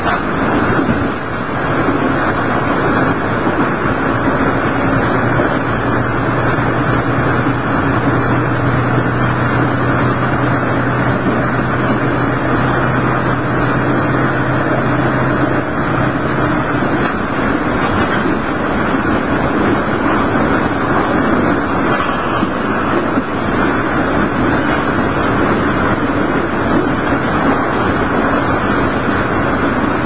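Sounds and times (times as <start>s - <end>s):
railcar engine drone: 0.0s - 30.0s
wheels rumbling on rails: 0.0s - 30.0s.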